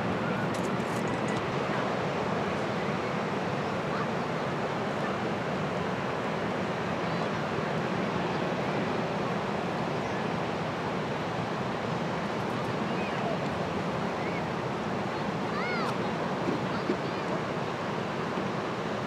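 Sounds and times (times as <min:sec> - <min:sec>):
ocean surf on beach: 0:00.0 - 0:19.0.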